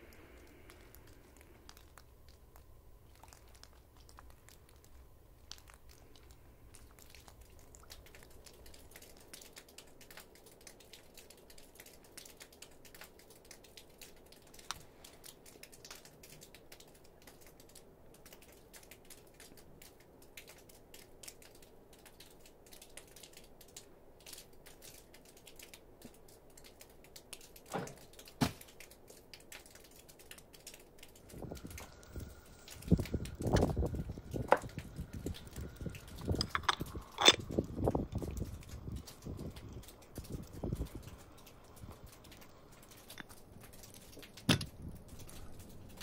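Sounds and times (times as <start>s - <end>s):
small clicks and ticks: 0.0s - 46.0s.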